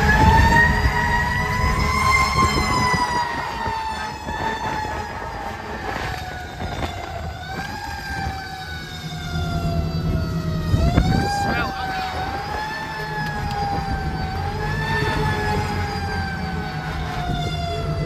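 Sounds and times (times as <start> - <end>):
mechanical siren wailing: 0.0 - 18.0.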